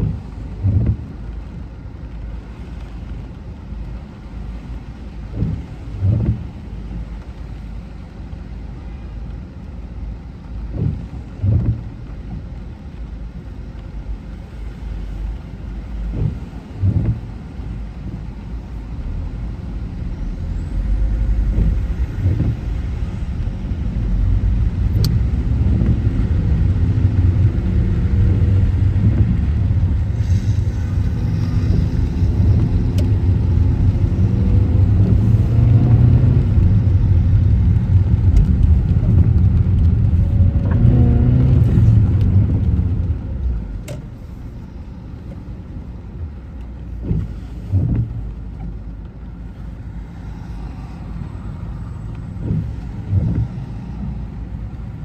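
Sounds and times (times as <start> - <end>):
road rumble: 0.0 - 55.0
car engine accelerating: 10.4 - 55.0.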